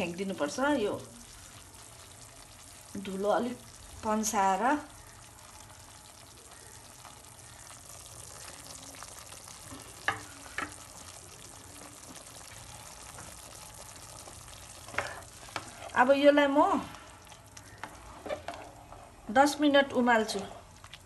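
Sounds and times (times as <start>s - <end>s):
broth boiling and bubbling: 0.0s - 21.0s.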